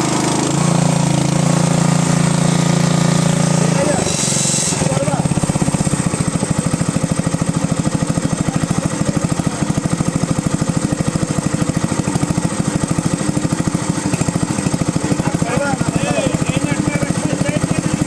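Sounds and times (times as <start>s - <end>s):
kerosene engine running: 0.0s - 18.0s.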